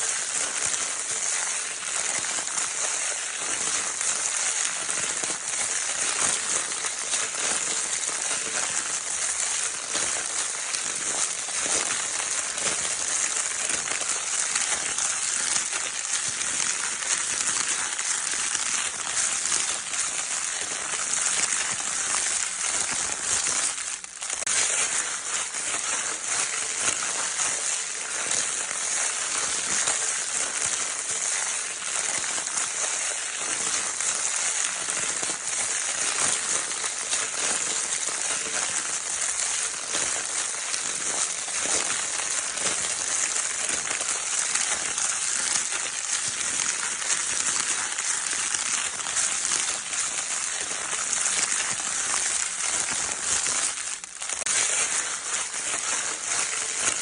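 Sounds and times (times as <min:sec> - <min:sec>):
crinkle paper crumpling: 0:00.0 - 0:57.0.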